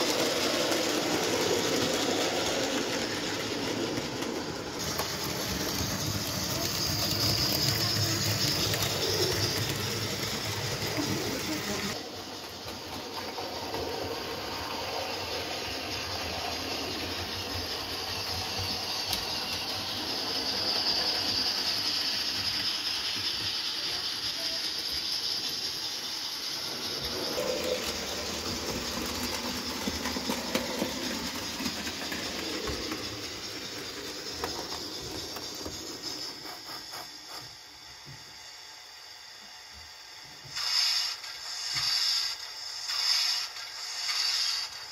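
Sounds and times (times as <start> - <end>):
constant hiss: 0.0 - 37.4
model train rolling: 0.0 - 37.8, 40.4 - 44.9.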